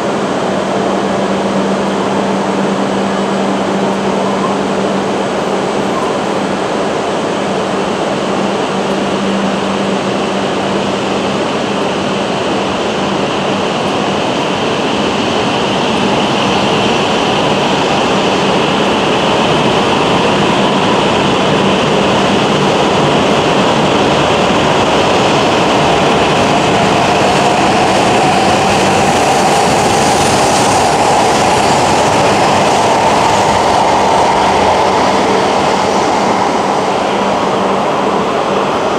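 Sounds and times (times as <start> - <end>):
rising train whine: 0.0 - 38.9
train rolling noise: 0.0 - 38.9.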